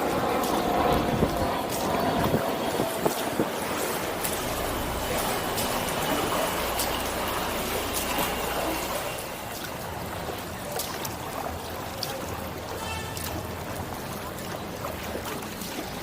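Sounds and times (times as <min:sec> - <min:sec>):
small splashes and clicks: 0:00.0 - 0:16.0
water dripping off paddle: 0:00.0 - 0:16.0.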